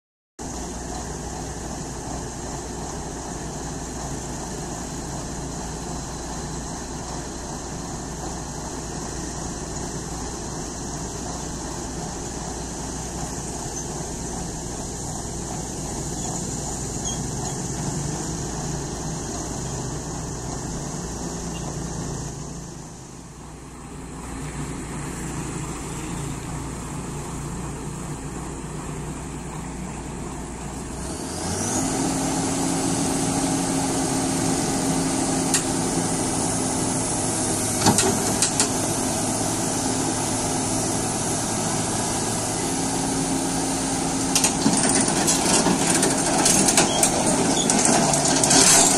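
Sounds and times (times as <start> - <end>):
diesel engine running: 0.4 - 48.9.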